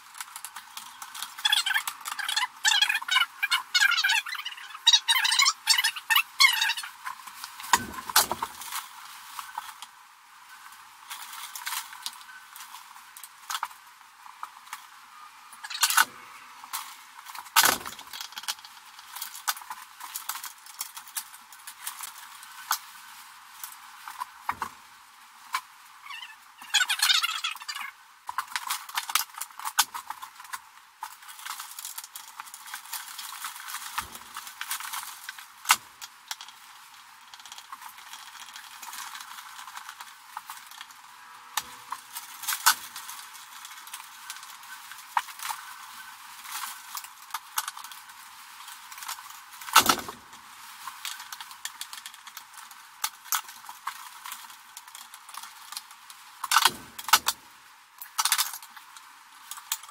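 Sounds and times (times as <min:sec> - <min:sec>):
clicks and rustling of wires: 0:00.0 - 0:24.9, 0:25.5 - 0:59.9.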